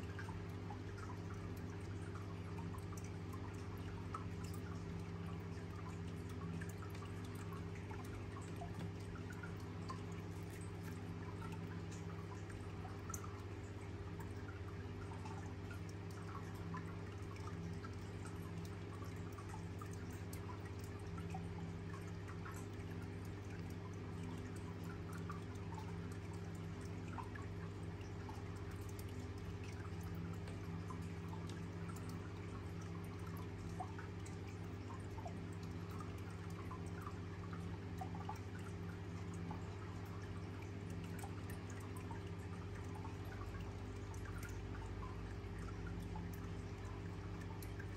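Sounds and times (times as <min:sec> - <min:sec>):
faint water drips: 0:00.0 - 0:47.9
steady low hum: 0:00.0 - 0:47.9.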